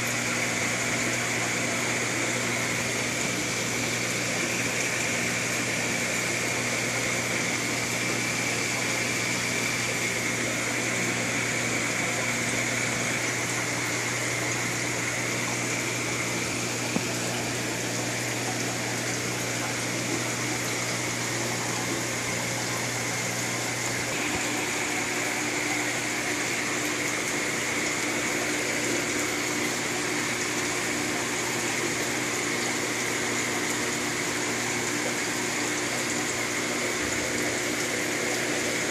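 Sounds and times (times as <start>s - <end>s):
pumps humming: 0.0s - 38.9s.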